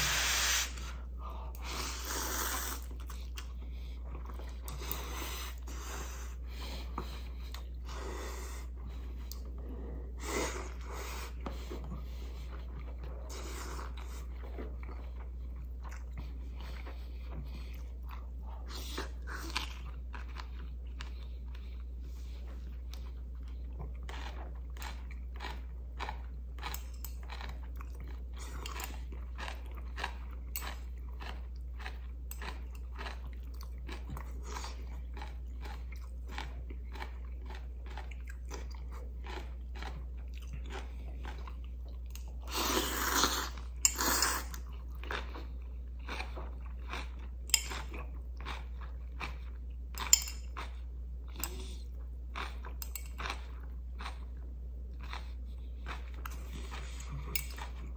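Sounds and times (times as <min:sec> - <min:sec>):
wet chewing and crunching: 0:10.7 - 0:57.9.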